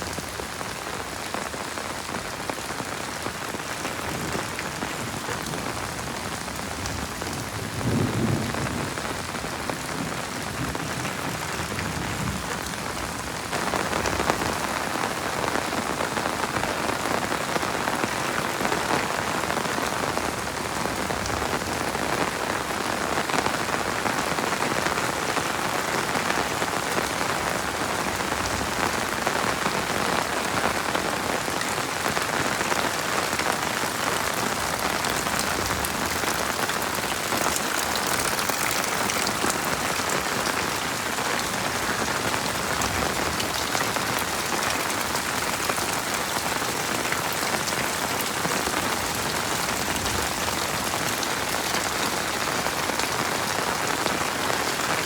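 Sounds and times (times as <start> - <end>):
heavy rain splattering: 0.0 - 55.0.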